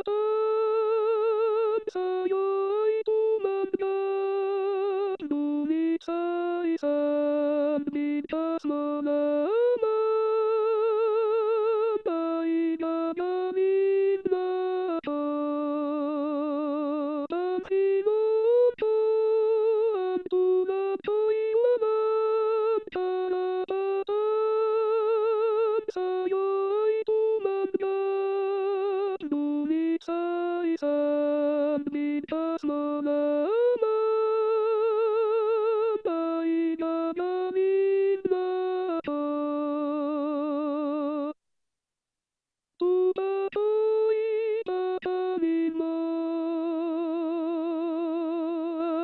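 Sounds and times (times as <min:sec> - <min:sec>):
synthetic choir voice singing: 0:00.0 - 0:41.4, 0:42.8 - 0:49.0.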